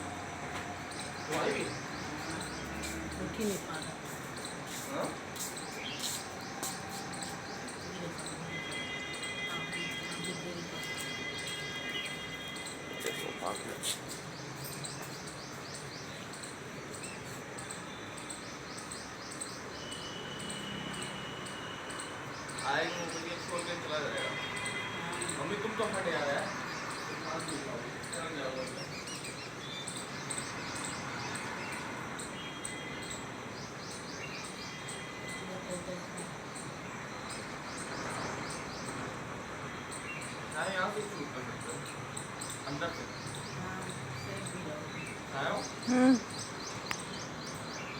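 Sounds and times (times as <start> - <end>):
insects chirping: 0.0 - 47.9
outdoor background noise: 0.0 - 47.9.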